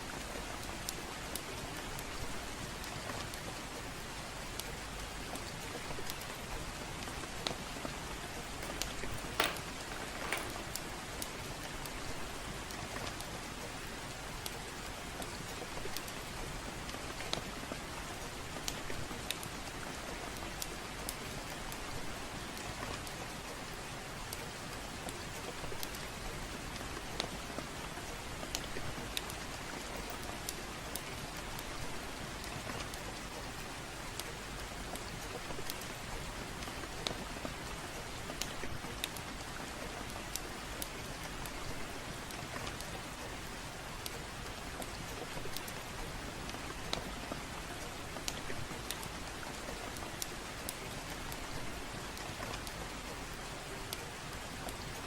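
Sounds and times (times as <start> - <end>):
steady gentle rain: 0.0 - 55.0.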